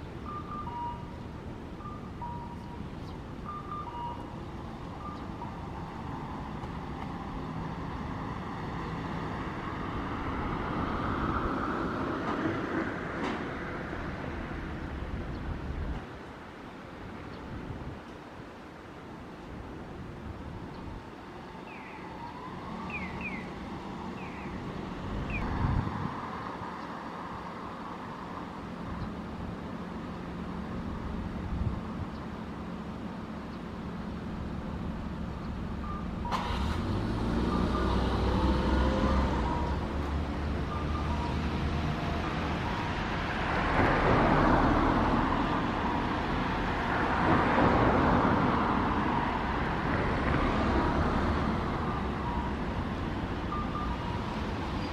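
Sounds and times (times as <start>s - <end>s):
rumble of road traffic: 0.0s - 54.9s
vehicles passing: 0.0s - 54.9s.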